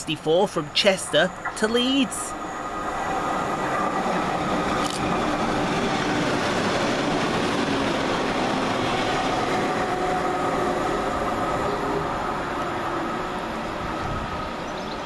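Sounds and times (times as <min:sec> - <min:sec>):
train engine noise: 0:00.0 - 0:15.0
train wheels on rails: 0:00.0 - 0:15.0.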